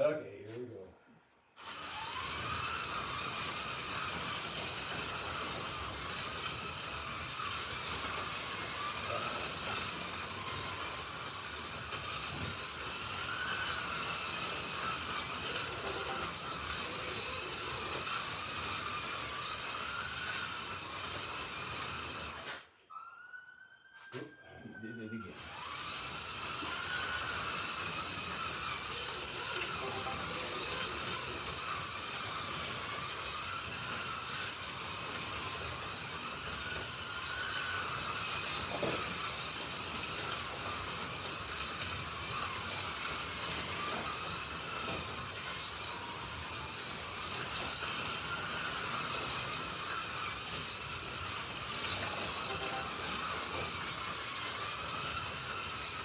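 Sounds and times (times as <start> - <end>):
slot car motors whining: 1.6 - 56.0.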